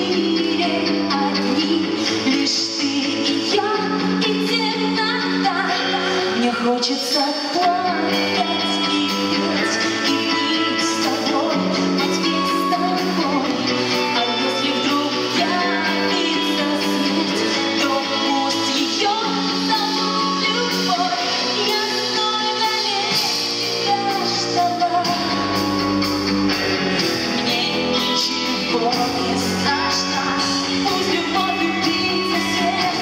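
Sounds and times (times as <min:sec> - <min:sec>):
woman singing: 0:00.0 - 0:26.6, 0:27.2 - 0:33.0
live rock band playing: 0:00.0 - 0:33.0.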